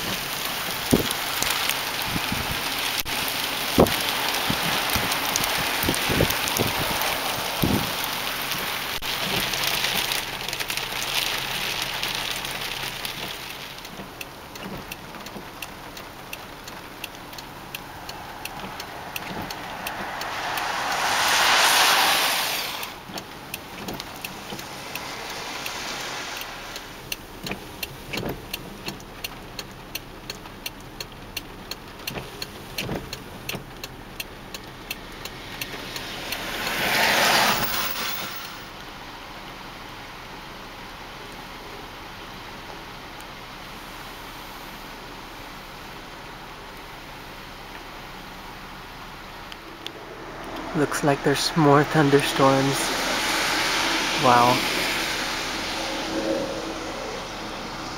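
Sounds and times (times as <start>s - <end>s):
rain falling: 0.0s - 57.9s
raindrops ticking on hard surface: 0.0s - 57.9s
vehicle passing on wet road: 0.0s - 57.9s.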